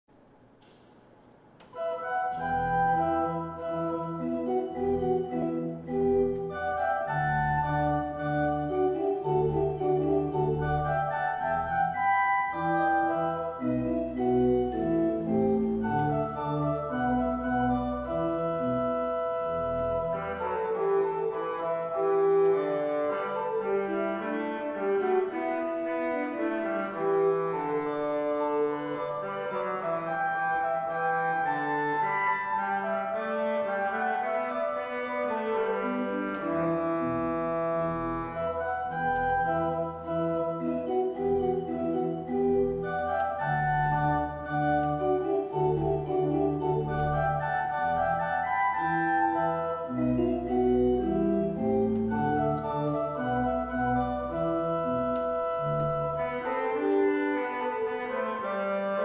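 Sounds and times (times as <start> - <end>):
church organ chords: 1.6 - 59.0.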